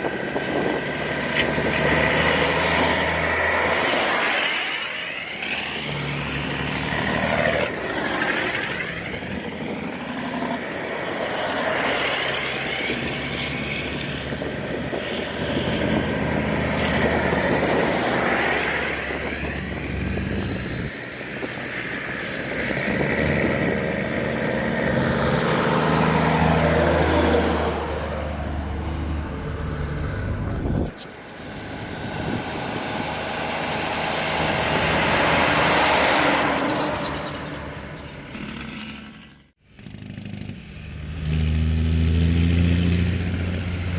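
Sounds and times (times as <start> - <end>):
trucks driving past: 0.0 - 43.9.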